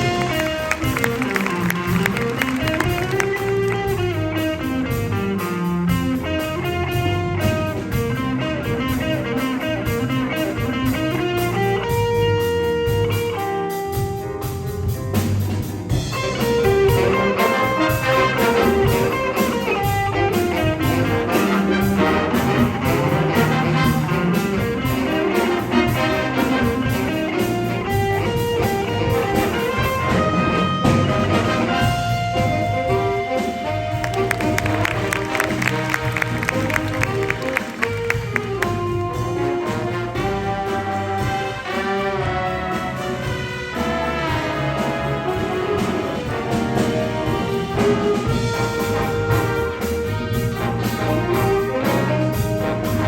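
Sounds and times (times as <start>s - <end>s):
jazz band playing: 0.0s - 53.0s.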